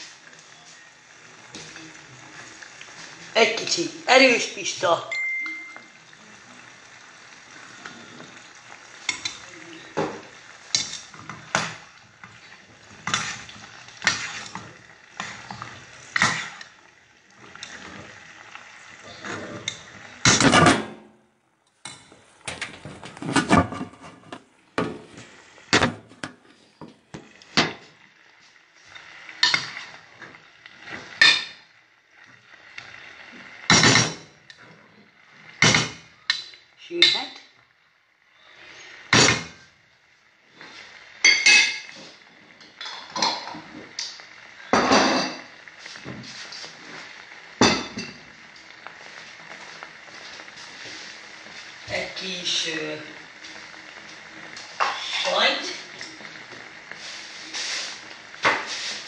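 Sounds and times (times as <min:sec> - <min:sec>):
food sizzling in a pot: 0:00.0 - 0:59.0.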